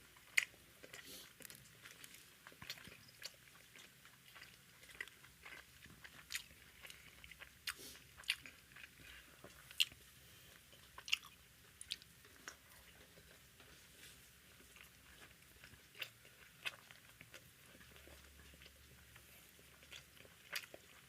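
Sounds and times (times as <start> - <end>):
person chewing with crunches: 0.2 - 21.0.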